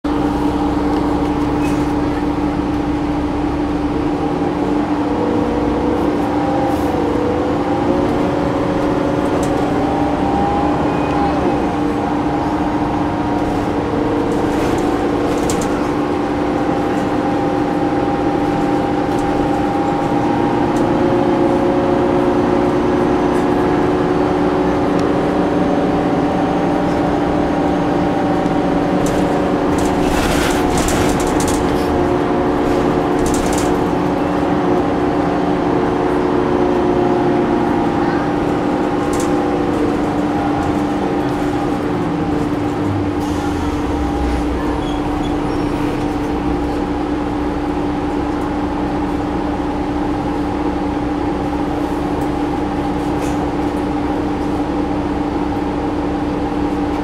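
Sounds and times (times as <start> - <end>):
bus drivetrain humming and whining: 0.0 - 57.0.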